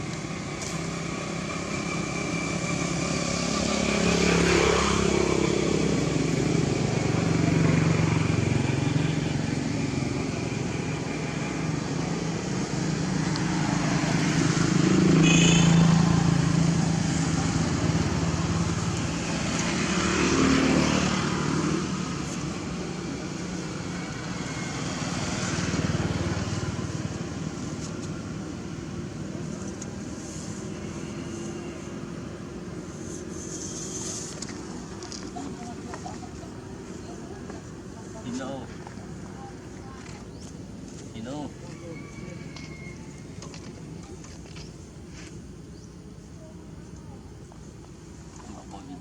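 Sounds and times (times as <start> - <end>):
motorbikes passing on road: 0.0 - 49.0.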